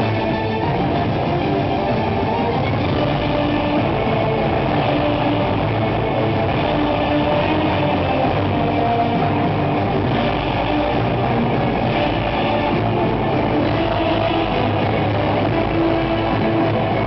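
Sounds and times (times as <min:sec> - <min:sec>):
loud amplified music: 0:00.0 - 0:17.0.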